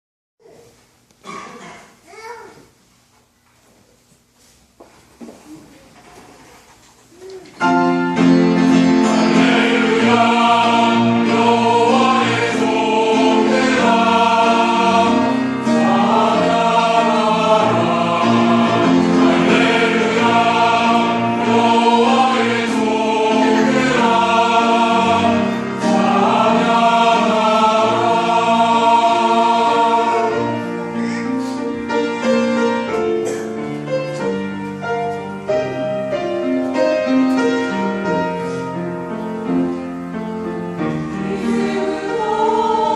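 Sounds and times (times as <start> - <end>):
piano accompaniment: 7.3 - 42.9
choir singing: 7.7 - 42.9.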